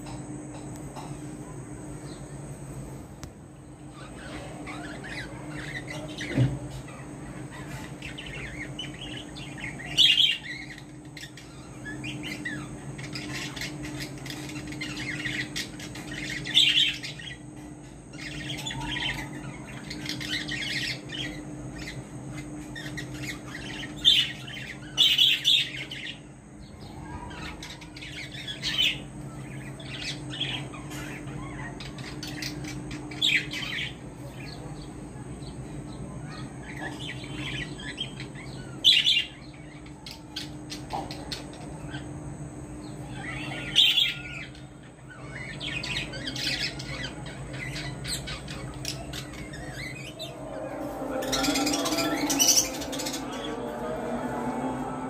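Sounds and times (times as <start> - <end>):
caged birds chirping: 0.0 - 55.0
low steady hum: 0.0 - 55.0.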